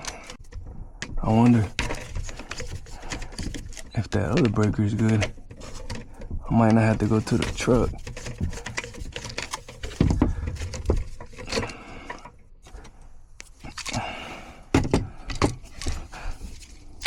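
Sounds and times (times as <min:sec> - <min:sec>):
rustling: 0:00.0 - 0:14.2, 0:15.1 - 0:17.0.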